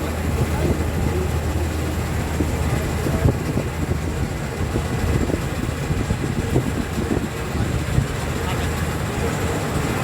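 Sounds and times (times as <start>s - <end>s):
combine harvester engine hum: 0.0s - 10.0s
machinery rattling and clattering: 0.0s - 10.0s.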